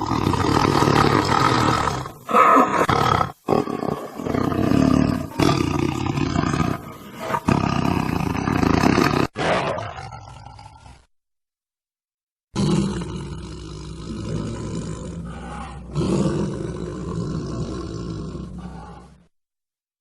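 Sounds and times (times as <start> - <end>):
tiger roaring: 0.0 - 11.1, 12.6 - 19.2.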